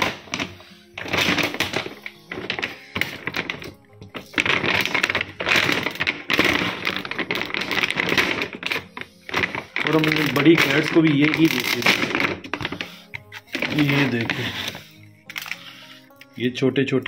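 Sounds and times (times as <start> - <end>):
plastic bag crinkling: 0.0 - 16.4.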